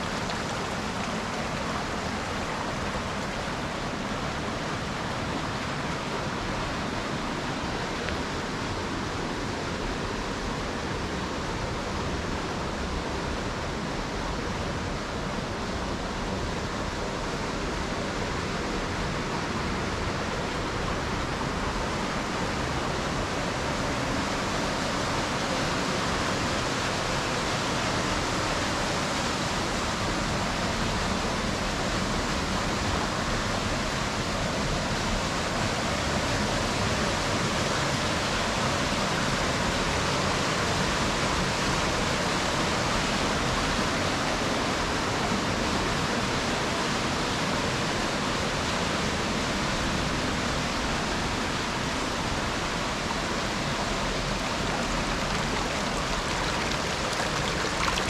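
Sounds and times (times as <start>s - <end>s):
rushing river water: 0.0s - 58.0s.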